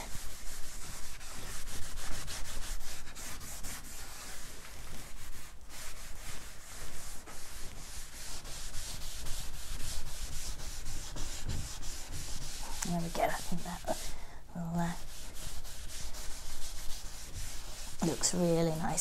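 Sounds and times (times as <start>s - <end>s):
cloth rubbing on waxed wood: 0.0s - 19.0s.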